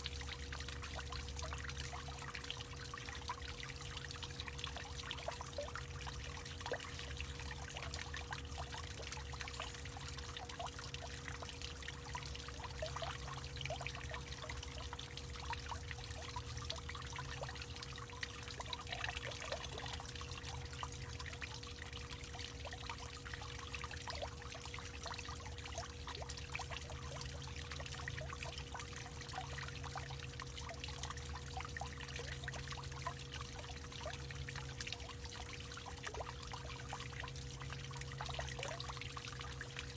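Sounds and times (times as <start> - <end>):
faint steady hum: 0.0 - 39.9
water trickling and pouring: 0.0 - 39.9.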